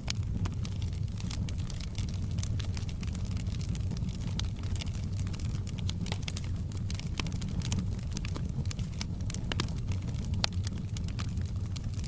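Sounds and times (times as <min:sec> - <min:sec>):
low rumble of burning: 0:00.0 - 0:12.0
wood fire crackling and popping: 0:00.0 - 0:12.0.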